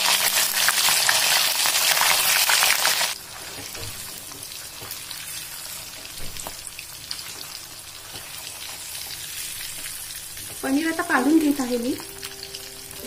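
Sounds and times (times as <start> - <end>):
deep-frying crackling sizzle: 0.0 - 13.0.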